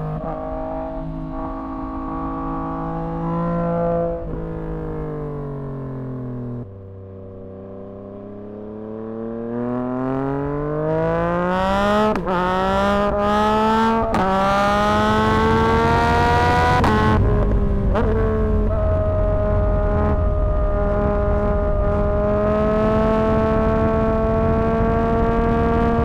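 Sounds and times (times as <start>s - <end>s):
motorcycle engine revving: 0.0s - 6.6s, 7.2s - 26.0s.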